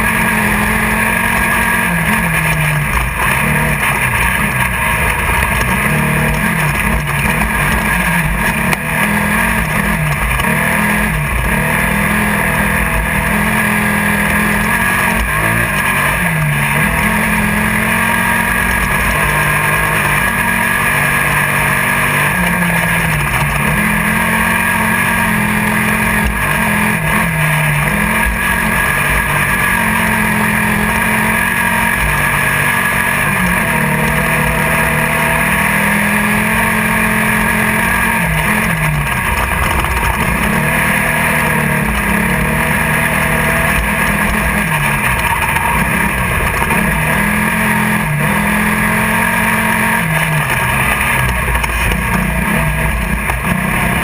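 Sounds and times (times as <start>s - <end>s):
buggy engine at high revs: 0.0s - 54.0s
dense din of noise: 0.0s - 54.0s.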